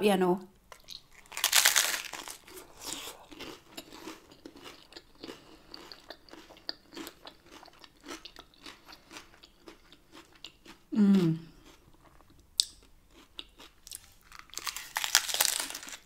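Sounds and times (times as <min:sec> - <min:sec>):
chewing crisp tortilla crunches: 0:00.7 - 0:16.0.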